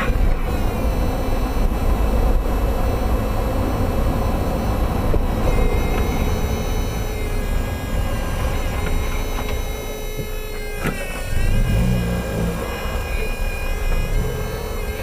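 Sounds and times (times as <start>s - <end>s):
car road and suspension rumble: 0.0s - 15.0s.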